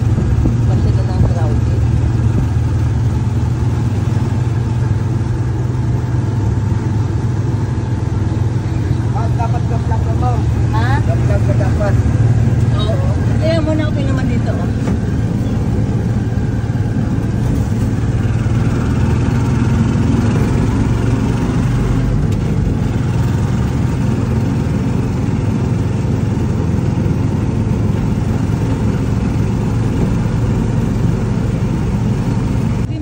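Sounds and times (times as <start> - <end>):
motorcycle engine droning: 0.0 - 33.0
road noise: 0.0 - 33.0.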